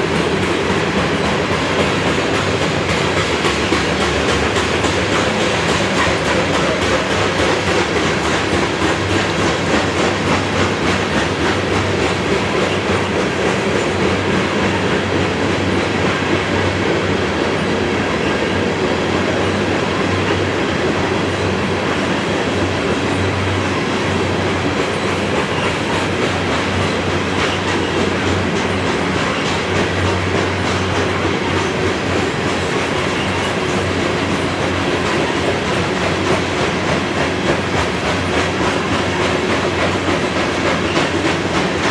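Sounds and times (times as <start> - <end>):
rapid clicking of rail joints: 0.0 - 41.9
train wheels rumbling on rail: 0.0 - 41.9.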